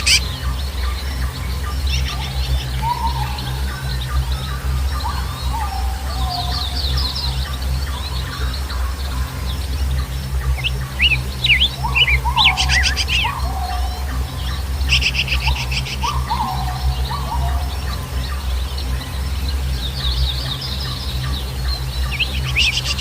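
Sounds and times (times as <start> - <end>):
birds chirping and trilling: 0.0 - 23.0
steady low hum: 0.0 - 23.0.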